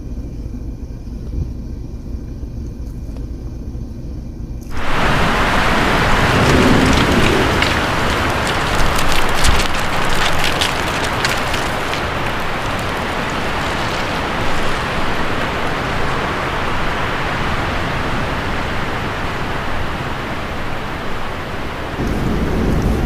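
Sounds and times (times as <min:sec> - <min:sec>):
road and wind noise in car: 0:00.0 - 0:23.0.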